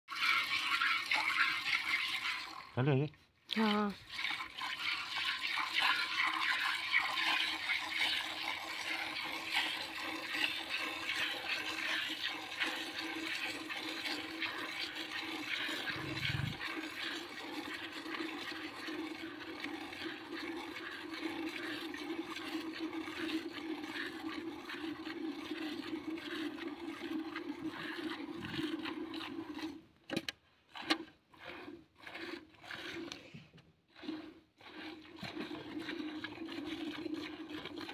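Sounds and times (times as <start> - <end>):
milk squirting into metal bucket: 0.1 - 2.8, 3.5 - 37.9.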